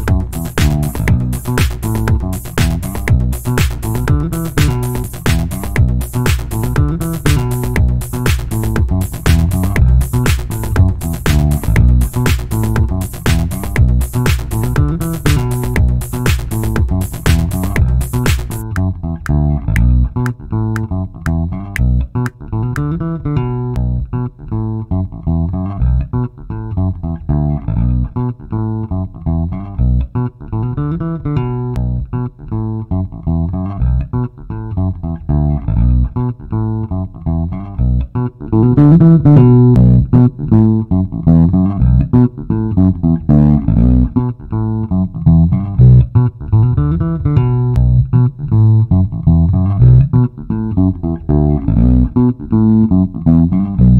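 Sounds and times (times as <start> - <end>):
funk electric bass loop: 0.0 - 53.9.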